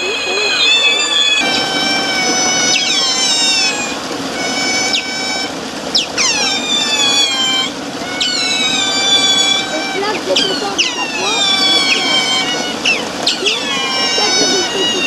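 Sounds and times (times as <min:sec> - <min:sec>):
otters squealing calls: 0:00.0 - 0:15.0.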